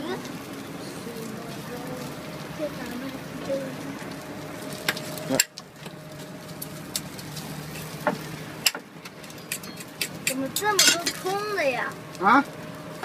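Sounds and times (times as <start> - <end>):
food sizzling on griddle: 0.0 - 13.0.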